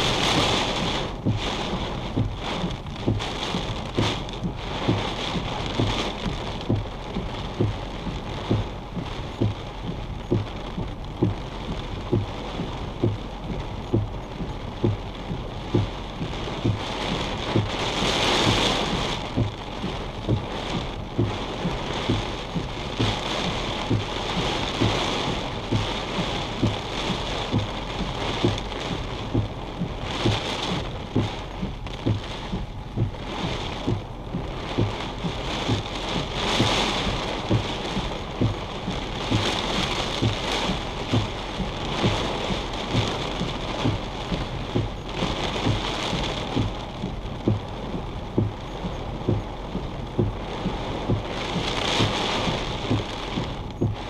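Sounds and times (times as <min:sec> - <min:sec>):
rain drumming on vehicle roof: 0:00.0 - 0:54.0
faint regular ticking: 0:00.2 - 0:54.0.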